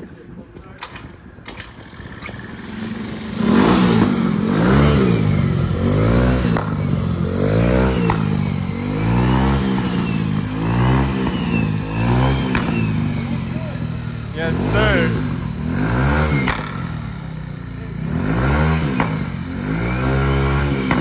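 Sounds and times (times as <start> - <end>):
moped engine starting and revving: 0.8 - 21.0.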